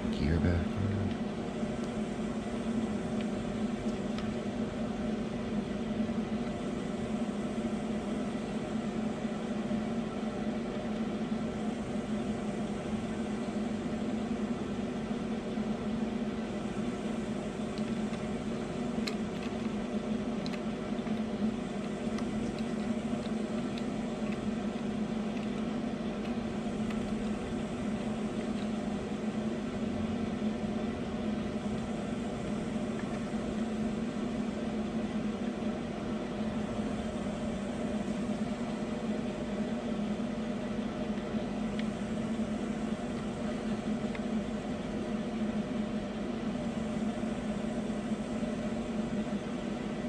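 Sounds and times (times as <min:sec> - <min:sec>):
fan motor humming: 0:00.0 - 0:50.0.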